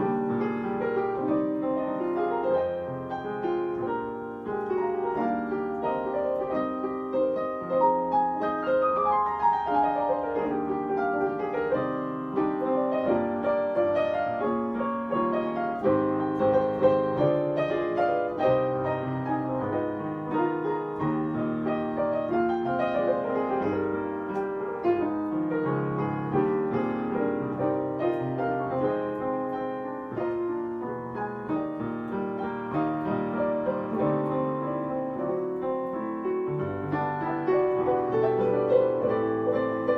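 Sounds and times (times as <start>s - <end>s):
piano piece: 0.0s - 39.9s.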